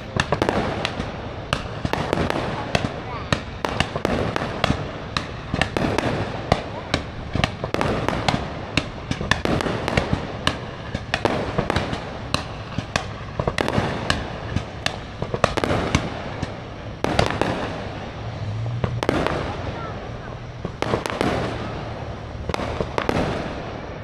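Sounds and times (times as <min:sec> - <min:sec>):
fireworks banging: 0:00.0 - 0:24.0.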